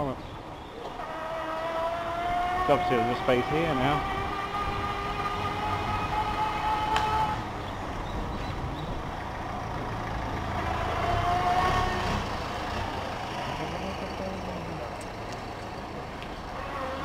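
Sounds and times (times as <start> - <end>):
wind and road rumble: 0.0 - 17.0.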